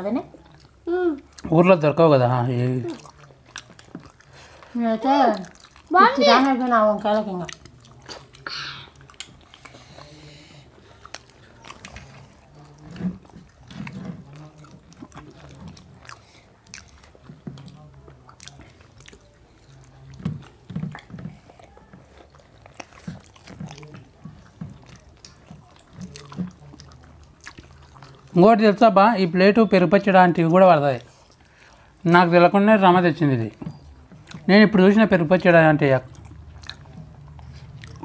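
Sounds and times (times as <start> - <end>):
people chewing and biting: 0.2 - 38.0.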